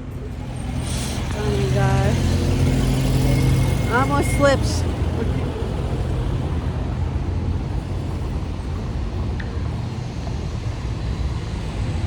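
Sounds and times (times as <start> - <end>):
street traffic: 0.0 - 12.0
vehicle engine rumbling: 0.0 - 12.0.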